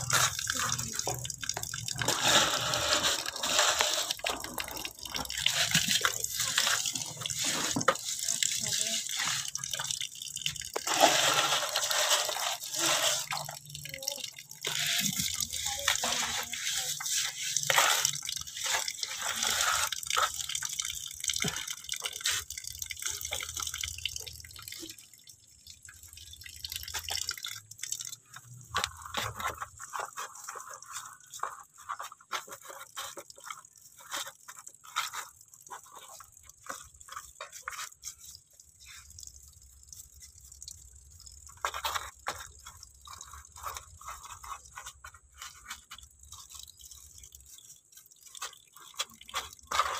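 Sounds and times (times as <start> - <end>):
tap water splashing into bucket: 0.0 - 49.9
water dripping: 0.0 - 49.9.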